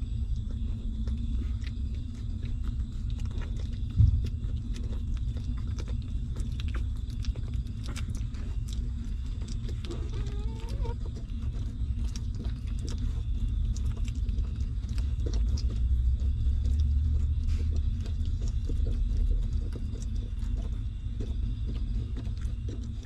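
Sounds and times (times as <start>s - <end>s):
puppies suckling wet smacking: 0.0s - 23.0s
steady low rumble: 0.0s - 23.0s.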